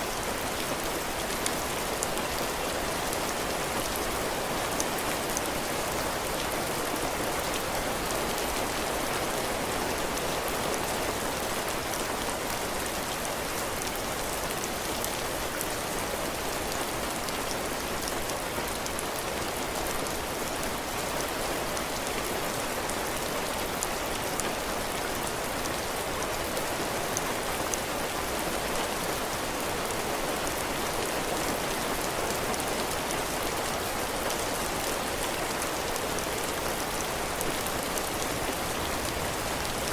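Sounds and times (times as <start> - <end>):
heavy rain on roof: 0.0 - 39.9.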